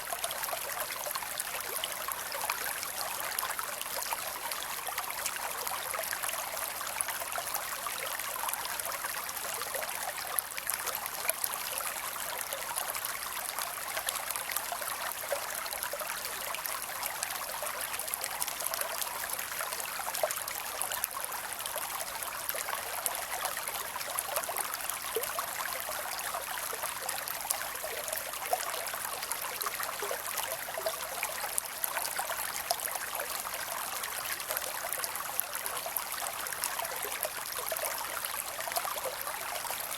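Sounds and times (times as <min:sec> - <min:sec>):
creek water babbling over rocks: 0:00.0 - 0:39.9.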